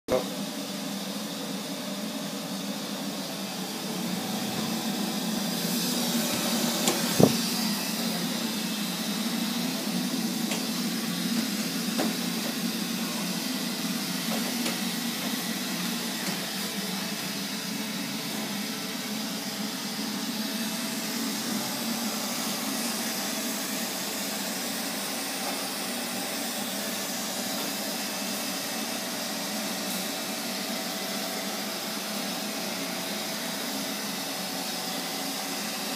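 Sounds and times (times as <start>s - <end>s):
robot vacuum cleaner whirring: 0.6s - 35.9s.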